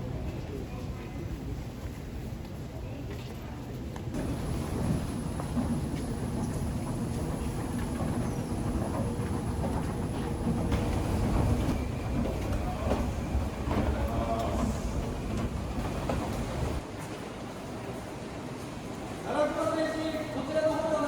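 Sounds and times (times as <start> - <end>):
subway train rumble: 0.0 - 21.0.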